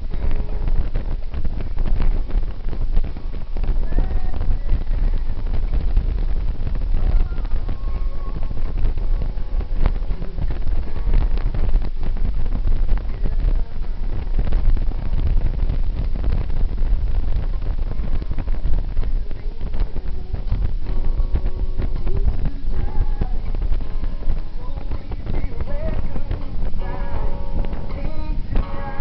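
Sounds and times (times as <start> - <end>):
vehicle rumble at highway speed: 0.0 - 29.0
wind buffeting microphone: 0.0 - 29.0.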